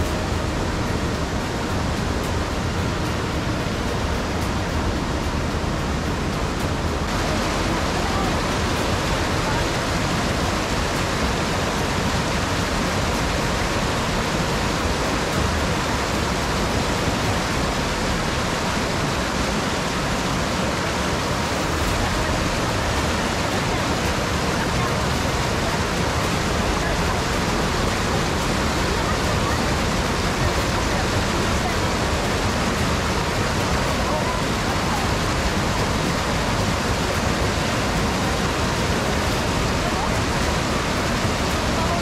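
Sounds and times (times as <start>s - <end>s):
whitewater rushing over boulders: 0.0s - 42.0s.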